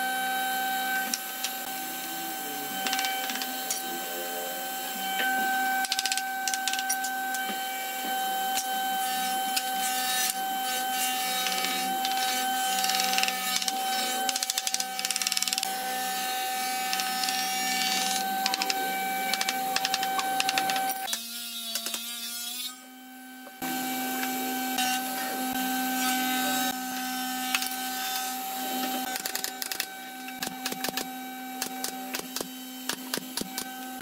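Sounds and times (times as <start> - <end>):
workshop machine hum: 0.0 - 34.0.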